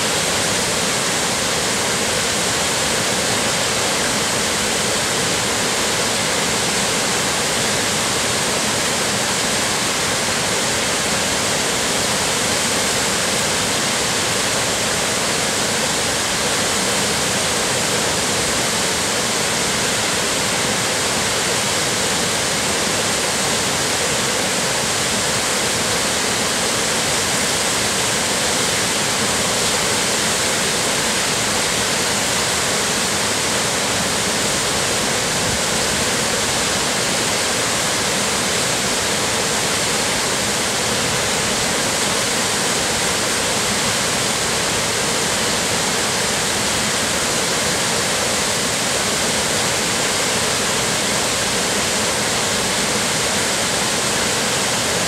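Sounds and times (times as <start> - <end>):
river rushing: 0.0 - 55.0
waterfall rushing: 0.0 - 55.0.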